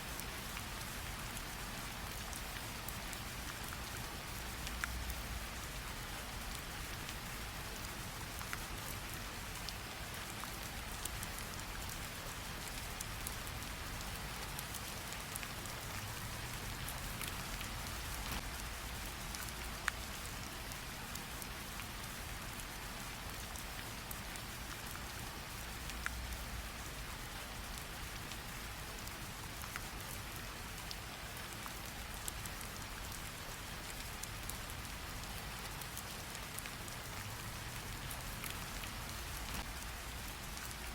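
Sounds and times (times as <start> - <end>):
raindrop ticks: 0.2 - 5.4, 6.2 - 40.9.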